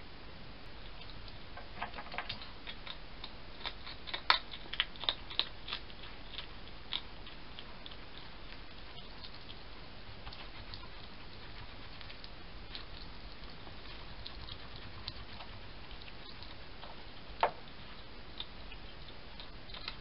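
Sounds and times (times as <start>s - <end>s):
hedgehog clicking while feeding: 0.8s - 20.0s.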